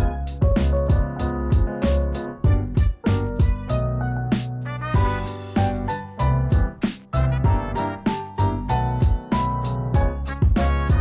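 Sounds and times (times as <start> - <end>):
piano-led music with steady beat: 0.0 - 11.0.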